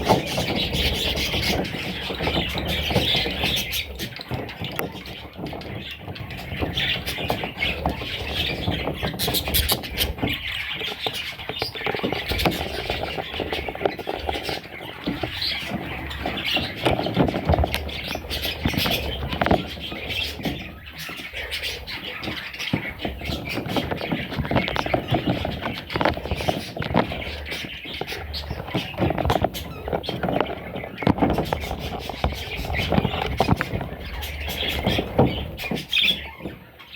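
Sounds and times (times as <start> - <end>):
budgerigars calling: 0.0 - 36.9.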